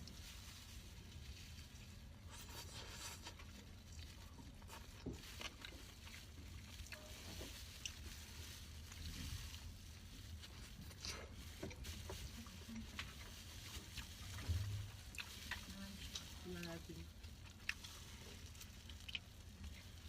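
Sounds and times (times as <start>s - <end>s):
food handling: 0.0s - 20.0s
low room hum: 0.0s - 20.0s
small clicks and rustles: 0.0s - 20.0s
soft chewing: 0.0s - 20.0s.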